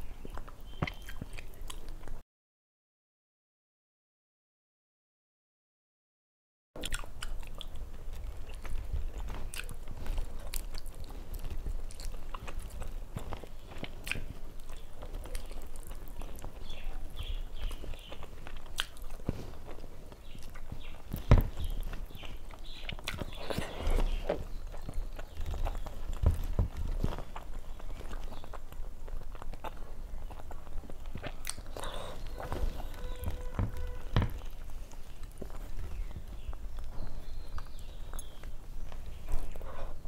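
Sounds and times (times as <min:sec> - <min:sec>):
chewing with wet mouth smacks: 0:00.0 - 0:02.2, 0:06.8 - 0:40.0.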